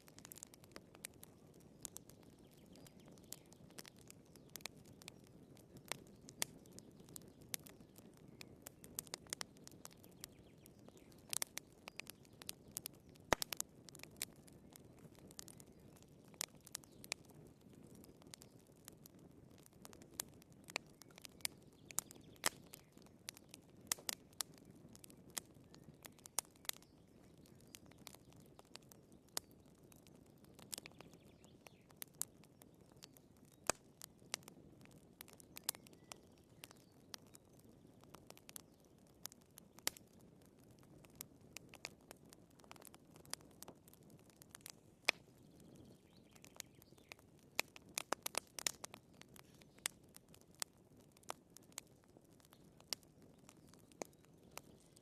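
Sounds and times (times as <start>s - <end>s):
firewood crackling and popping: 0.0s - 55.0s
soft steady fire hiss: 0.0s - 55.0s.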